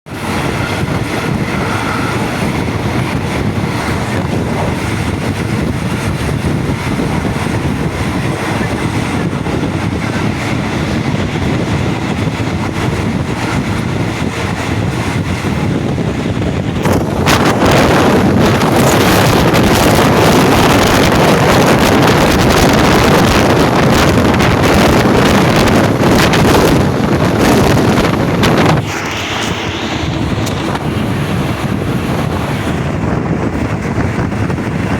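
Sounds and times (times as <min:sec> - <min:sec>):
moving train running: 0:00.1 - 0:34.9
wind buffeting microphone: 0:00.1 - 0:34.9.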